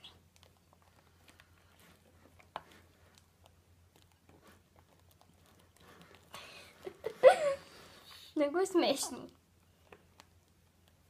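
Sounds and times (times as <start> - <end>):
slime squishing: 0.0 - 7.1, 9.2 - 11.0.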